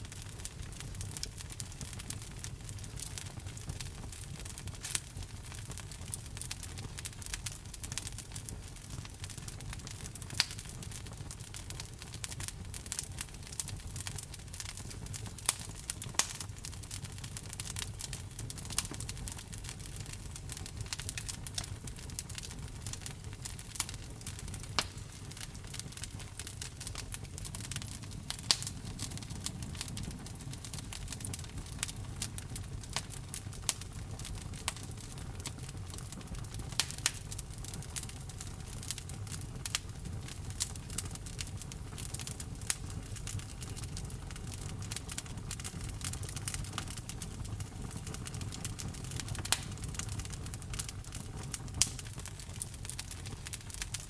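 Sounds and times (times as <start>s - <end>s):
logs crackling and popping: 0.0s - 54.0s
low rush of flame: 0.0s - 54.0s.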